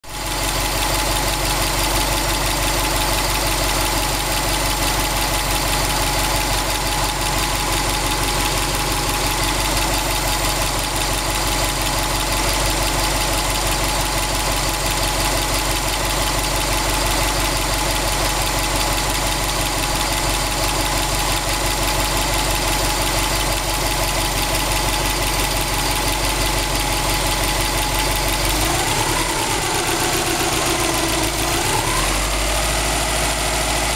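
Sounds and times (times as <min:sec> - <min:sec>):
car engine idling: 0:00.1 - 0:33.9
engine knocking: 0:00.1 - 0:33.9.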